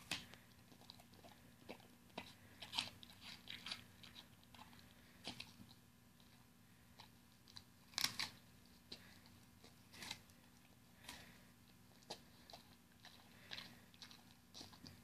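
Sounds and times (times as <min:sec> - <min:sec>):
dog crunching an apple: 0:00.0 - 0:06.4, 0:07.0 - 0:15.0.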